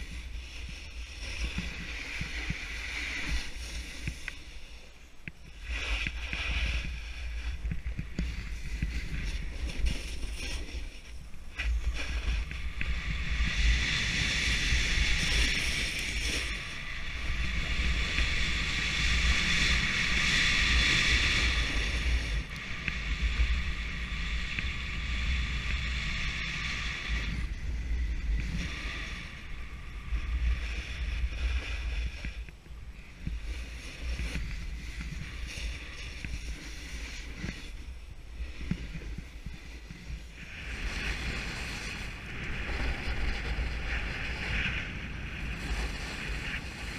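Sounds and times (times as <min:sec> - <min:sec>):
snowboard scraping over snow: 0:00.0 - 0:46.9
wind buffeting microphone: 0:00.0 - 0:46.9.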